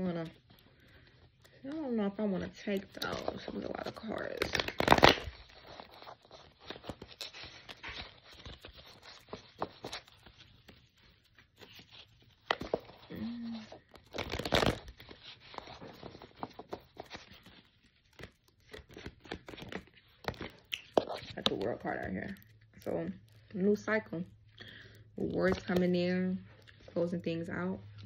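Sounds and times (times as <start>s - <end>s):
cards being shuffled: 0.0s - 23.9s, 25.2s - 26.0s.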